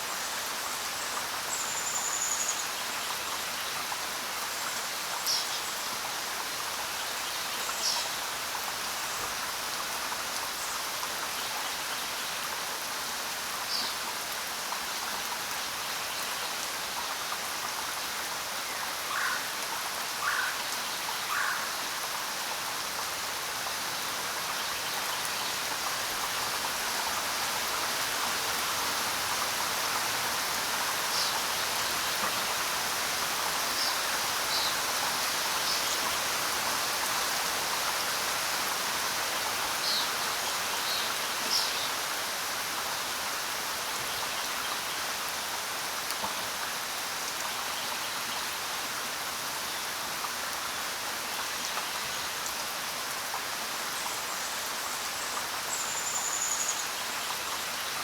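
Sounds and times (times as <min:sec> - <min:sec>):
rain falling on ground: 0:00.0 - 0:58.0.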